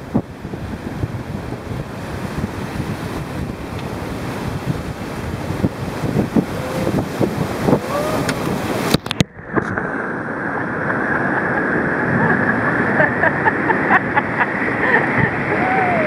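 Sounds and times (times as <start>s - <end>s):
whitewater rushing and splashing: 0.0s - 16.0s
wind buffeting microphone: 0.0s - 16.0s.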